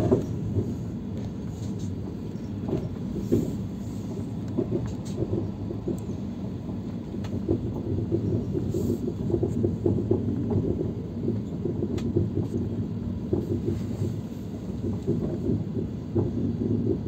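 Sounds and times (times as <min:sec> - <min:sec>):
train wheels rumbling and rattling: 0:00.0 - 0:17.0.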